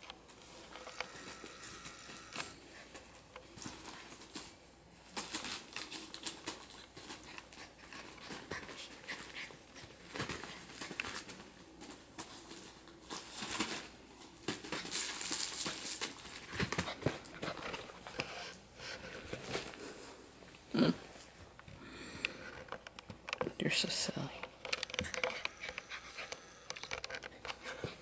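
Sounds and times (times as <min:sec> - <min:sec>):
puppy scratching and rustling: 0:00.3 - 0:20.1, 0:24.1 - 0:28.0.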